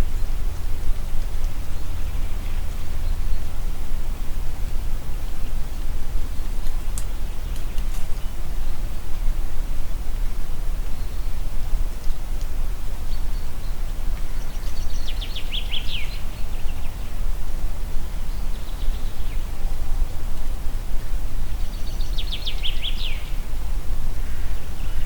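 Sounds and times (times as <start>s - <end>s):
songbird singing: 0.0s - 9.4s, 10.8s - 17.3s, 18.0s - 25.0s
low wind rumble: 0.0s - 25.0s.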